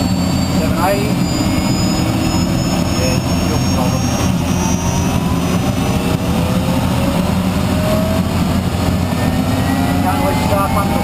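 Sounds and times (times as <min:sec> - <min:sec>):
low engine rumble: 0:00.0 - 0:11.0
turbine engine whine rising: 0:00.0 - 0:11.0.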